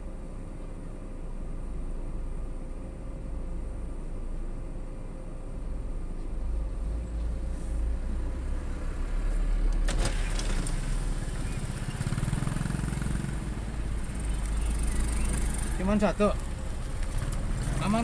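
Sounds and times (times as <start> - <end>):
car cabin rumble on dirt road: 0.0 - 18.0.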